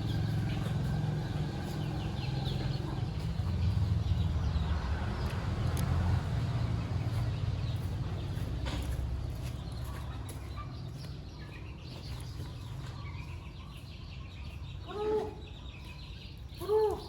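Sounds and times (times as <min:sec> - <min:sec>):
chickens clucking: 0:00.0 - 0:04.5, 0:05.2 - 0:17.0.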